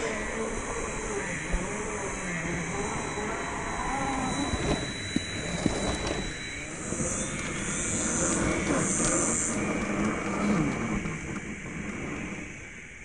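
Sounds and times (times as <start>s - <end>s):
electric motor whining: 0.0s - 13.0s
steady hiss: 0.0s - 13.0s.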